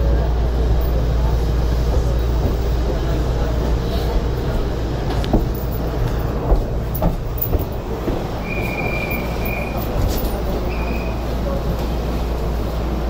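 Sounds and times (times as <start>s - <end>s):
monorail car rumble: 0.0s - 13.0s.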